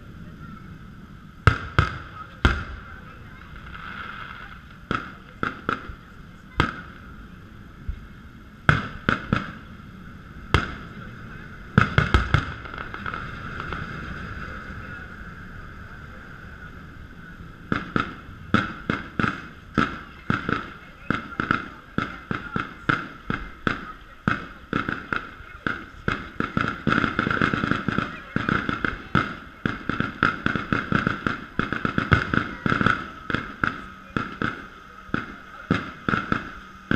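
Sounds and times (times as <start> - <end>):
distant fireworks bangs: 0.0 - 36.9.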